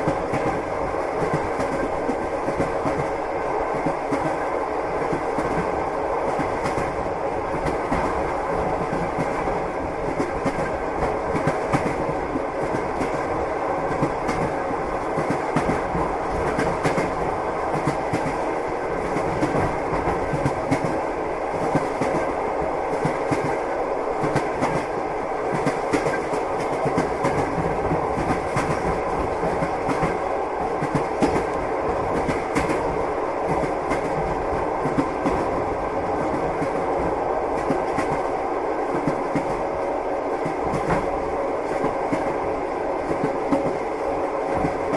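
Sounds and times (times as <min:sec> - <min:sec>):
train rumble: 0:00.0 - 0:44.9
train wheels clickety-clack: 0:00.0 - 0:44.9.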